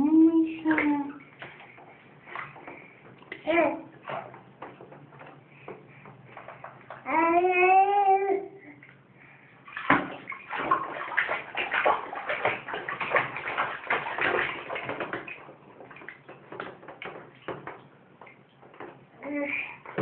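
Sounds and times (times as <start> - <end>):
baby splashing bathwater: 0.0 - 20.0.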